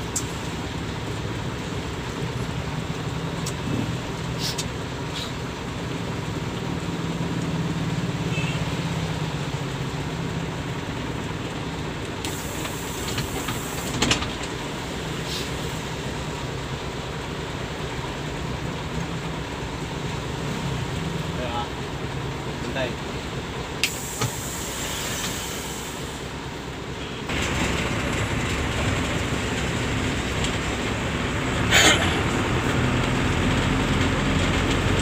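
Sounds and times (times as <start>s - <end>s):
bus engine droning: 0.0s - 35.0s
road noise: 0.0s - 35.0s.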